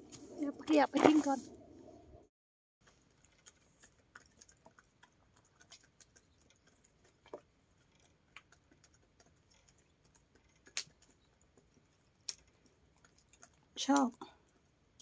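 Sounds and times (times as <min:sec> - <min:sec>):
hens pecking on ground: 0:02.8 - 0:15.0.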